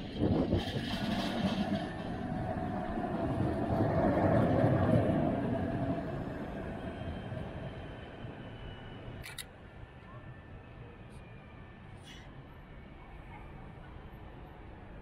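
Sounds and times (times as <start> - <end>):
electric tram passing: 0.0 - 15.0.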